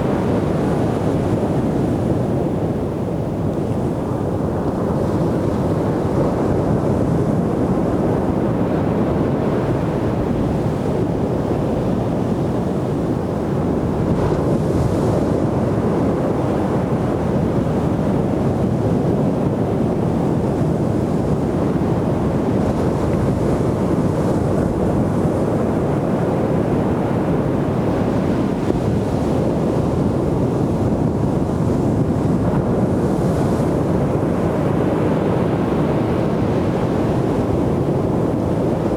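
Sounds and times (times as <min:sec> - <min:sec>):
ocean surf washing onto beach: 0:00.0 - 0:38.9.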